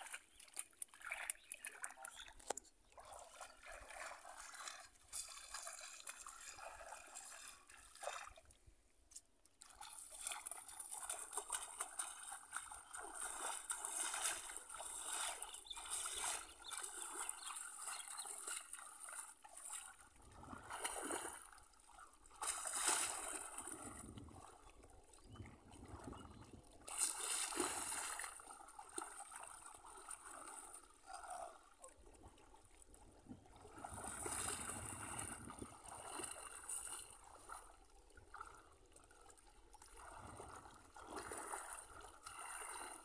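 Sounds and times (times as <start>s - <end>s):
muddy water splashing: 0.0s - 8.6s, 9.6s - 43.0s.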